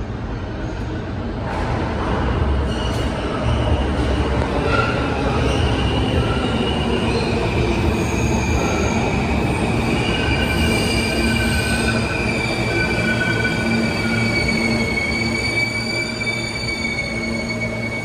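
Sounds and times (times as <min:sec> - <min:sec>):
train wheels rumbling on rails: 0:00.0 - 0:18.0
high-pitched wheel squeal: 0:02.7 - 0:18.0.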